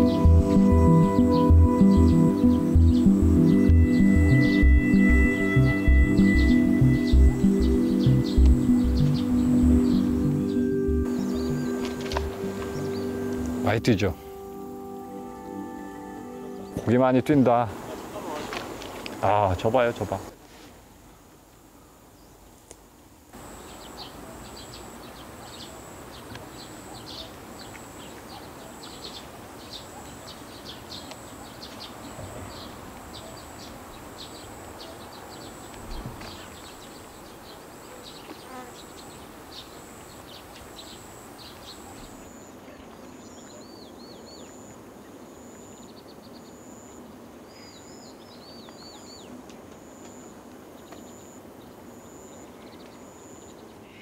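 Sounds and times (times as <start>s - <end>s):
bird chirps: 0.0s - 18.3s, 23.6s - 54.0s
high insect drone: 0.0s - 20.3s, 23.4s - 34.8s, 35.4s - 54.0s.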